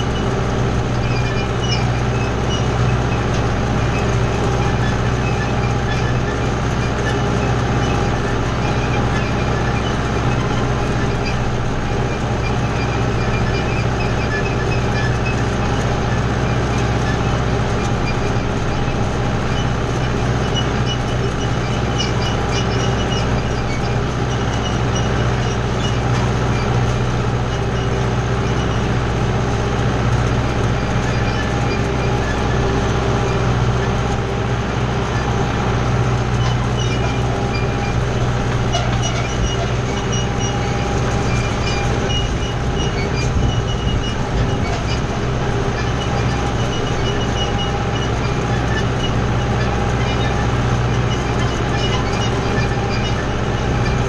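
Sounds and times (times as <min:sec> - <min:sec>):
machinery clicks and rattles: 0:00.0 - 0:54.0
tractor diesel engine running: 0:00.0 - 0:54.0.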